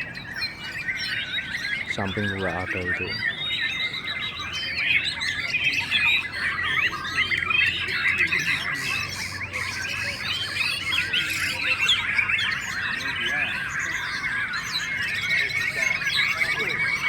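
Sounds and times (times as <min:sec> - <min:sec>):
chorus of birds singing: 0:00.0 - 0:17.0.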